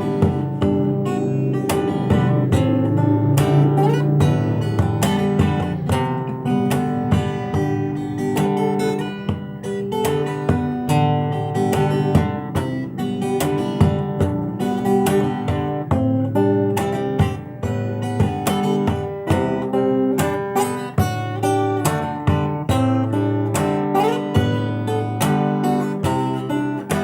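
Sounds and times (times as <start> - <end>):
fingerstyle acoustic guitar: 0.0 - 27.0.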